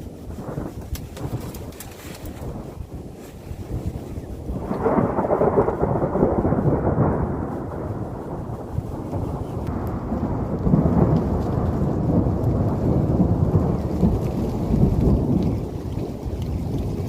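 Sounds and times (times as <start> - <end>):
low storm rumble: 0.0 - 17.0.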